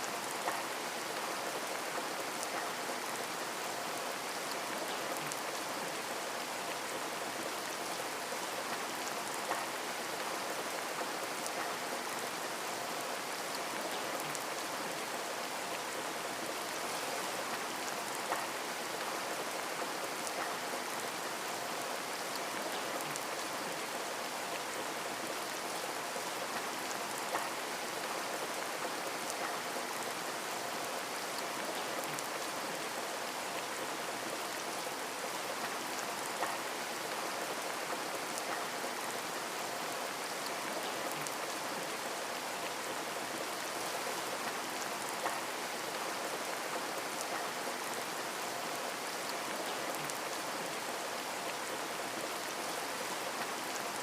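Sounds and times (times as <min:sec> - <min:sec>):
rain hissing on a window: 0:00.0 - 0:54.0.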